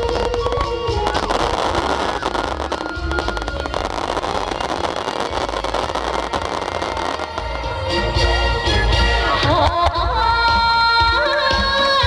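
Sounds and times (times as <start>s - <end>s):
fireworks bursting and crackling: 0.0s - 10.2s
music playing: 0.0s - 12.0s.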